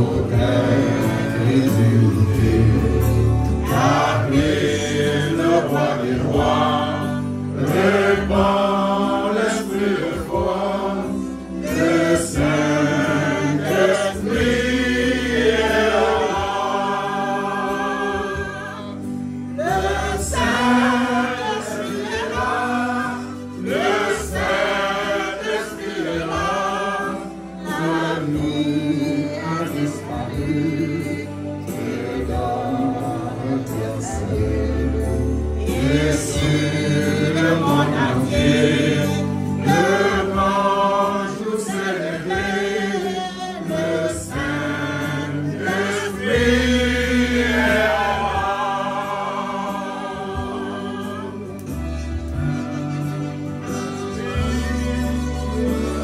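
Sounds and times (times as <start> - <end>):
group singing a hymn: 0.0 - 56.0.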